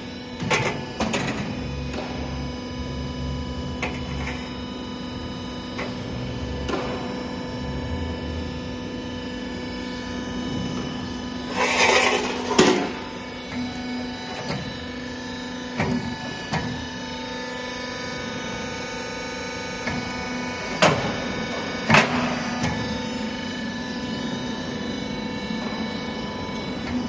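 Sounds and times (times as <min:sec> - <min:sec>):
machine motor hum: 0:00.0 - 0:27.0.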